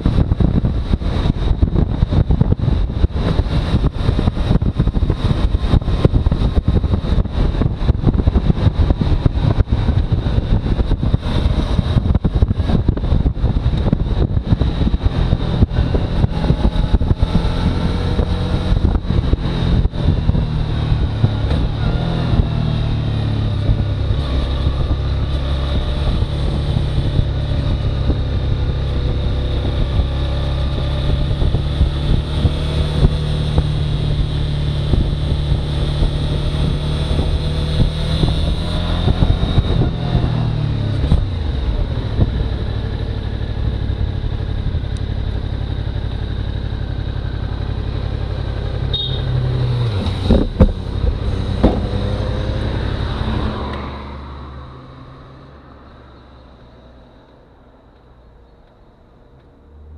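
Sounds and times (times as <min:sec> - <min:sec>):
motorcycle engine running: 0:00.0 - 0:53.1
wind buffeting microphone: 0:00.0 - 0:55.2.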